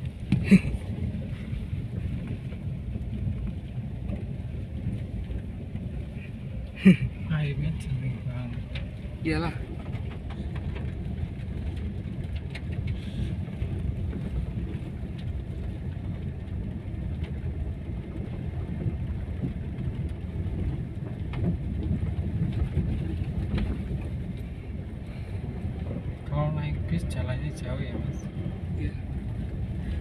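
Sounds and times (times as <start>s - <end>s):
car engine rumble in cabin: 0.0s - 30.0s.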